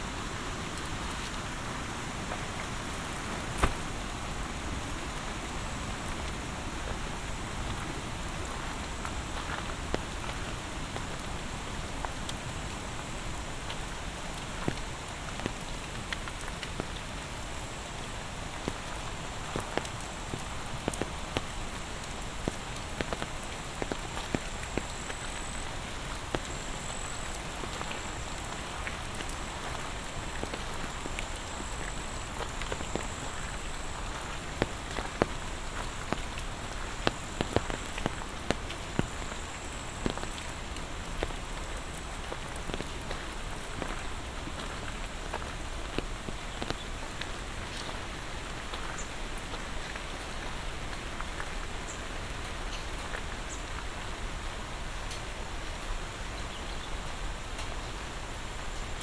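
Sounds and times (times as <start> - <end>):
rain falling: 0.0 - 59.0
raindrops striking close by: 0.0 - 59.0.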